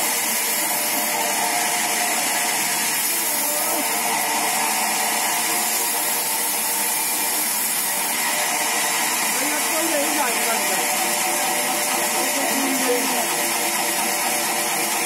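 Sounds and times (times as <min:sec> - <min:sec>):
band saw running: 0:00.0 - 0:15.0.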